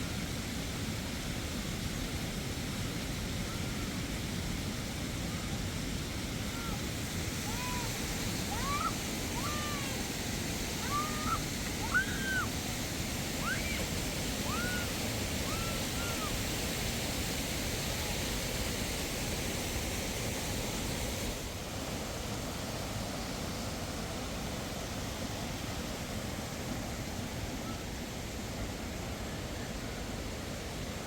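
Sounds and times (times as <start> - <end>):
flowing water rushing: 0.0 - 31.0.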